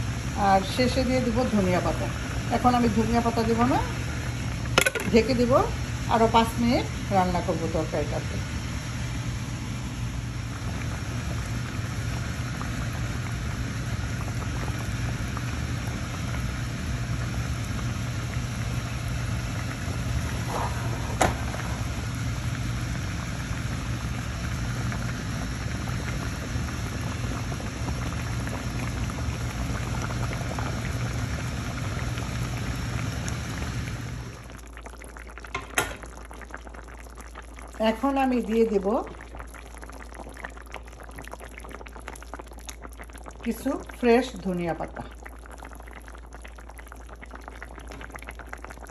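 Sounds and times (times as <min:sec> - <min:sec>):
curry bubbling in a pot: 0:00.0 - 0:48.9
low even hum: 0:00.0 - 0:48.9.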